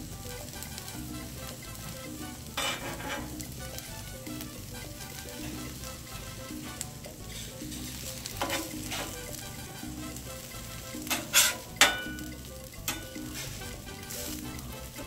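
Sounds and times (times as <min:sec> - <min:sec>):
food sizzling on griddle: 0:00.0 - 0:15.0
metal spatula scraping griddle: 0:02.2 - 0:12.2, 0:12.9 - 0:15.0.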